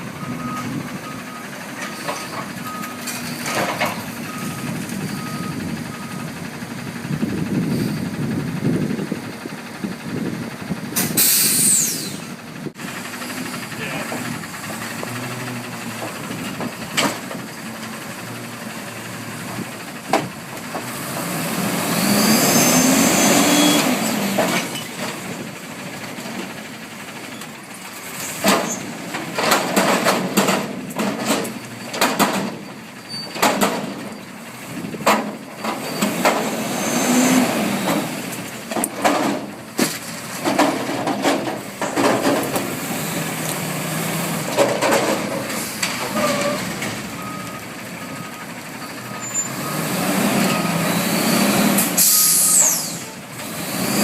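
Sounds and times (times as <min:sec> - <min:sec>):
garbage truck engine revving: 0:07.2 - 0:27.3, 0:27.9 - 0:54.0.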